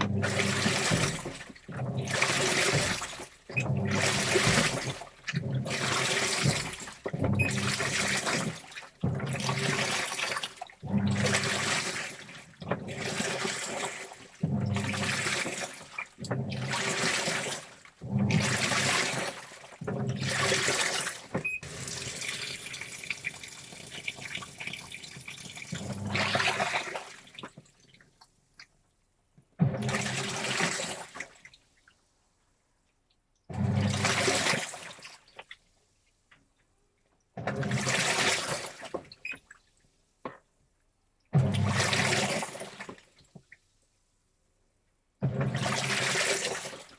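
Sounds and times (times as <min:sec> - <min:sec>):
water sloshing in washing machine: 0:00.0 - 0:28.7, 0:29.5 - 0:31.9, 0:33.5 - 0:35.7, 0:37.3 - 0:40.4, 0:41.3 - 0:43.6, 0:45.2 - 0:46.9.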